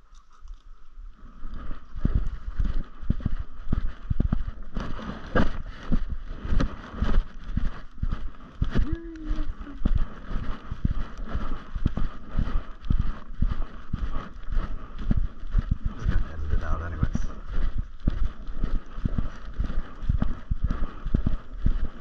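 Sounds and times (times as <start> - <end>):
footsteps on leafy dirt trail: 0.0 - 22.0
microphone jostling: 1.4 - 22.0.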